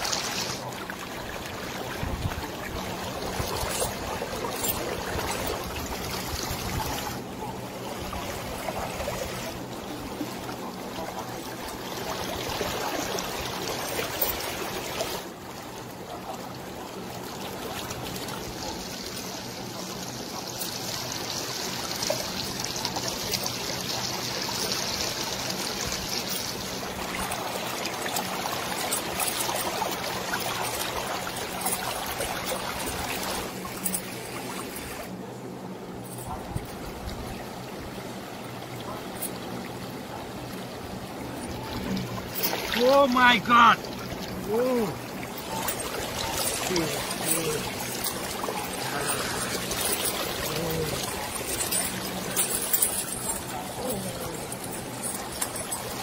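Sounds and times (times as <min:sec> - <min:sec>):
river water trickling over rocks: 0:00.0 - 0:35.2, 0:36.0 - 0:56.0.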